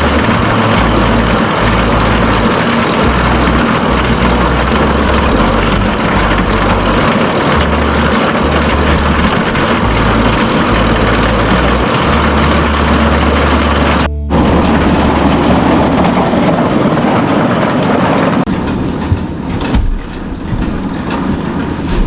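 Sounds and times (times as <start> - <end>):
uneven low rumble: 0.0 - 17.8
loud machinery running: 0.0 - 22.0.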